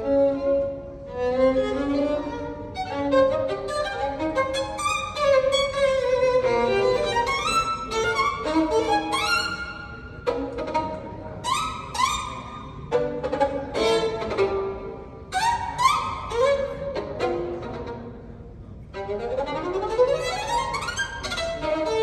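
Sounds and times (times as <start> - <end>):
violin melody over loudspeakers: 0.0 - 22.0.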